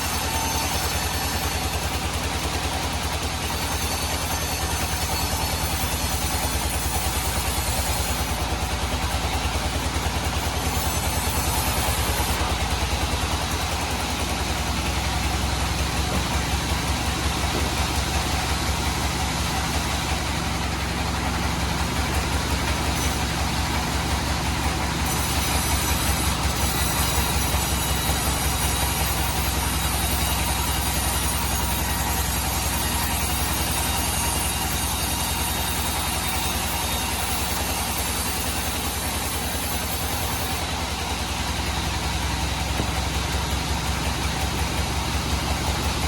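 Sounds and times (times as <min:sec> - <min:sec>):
bandsaw sawing wood: 0:00.0 - 0:46.0.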